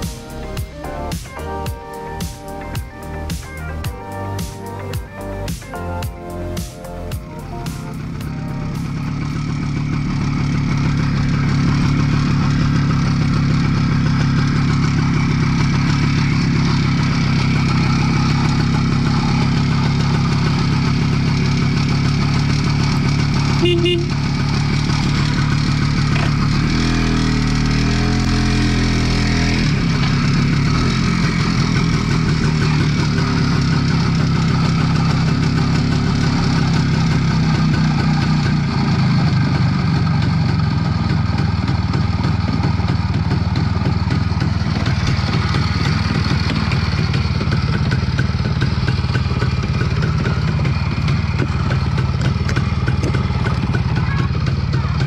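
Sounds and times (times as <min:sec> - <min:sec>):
two-stroke motorcycle engine running: 0:00.0 - 0:55.0.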